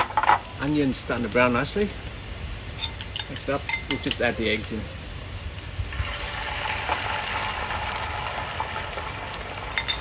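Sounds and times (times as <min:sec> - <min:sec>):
egg sizzling in hot oil: 0:00.0 - 0:10.0.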